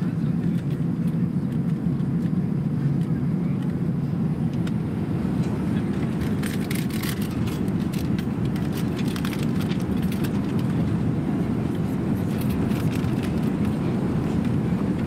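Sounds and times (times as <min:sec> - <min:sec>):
airliner cabin low rumble: 0:00.0 - 0:15.0.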